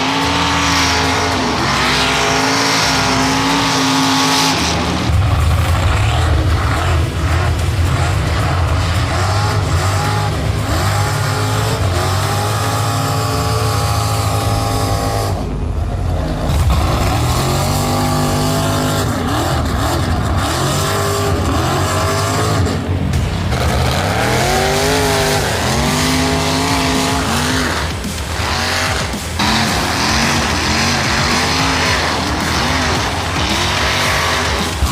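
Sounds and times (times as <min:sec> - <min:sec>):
truck engine revving hard: 0:00.0 - 0:34.9.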